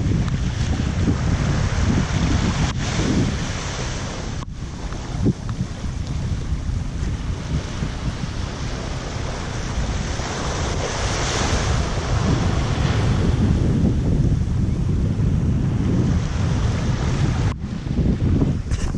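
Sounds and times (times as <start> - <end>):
small waves lapping on shore: 0.0 - 18.9
wind buffeting microphone: 0.0 - 18.9.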